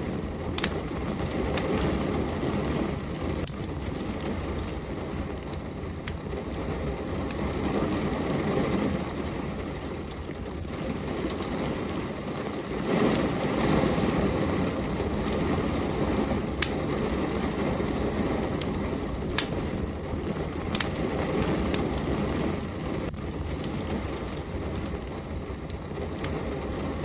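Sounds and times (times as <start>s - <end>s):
steady rain: 0.0s - 27.0s
wood fire crackling: 0.0s - 27.0s.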